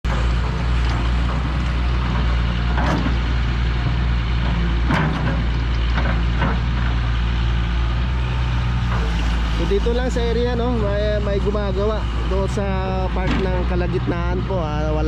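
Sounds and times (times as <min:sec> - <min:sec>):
backhoe diesel engines running: 0:00.0 - 0:15.0.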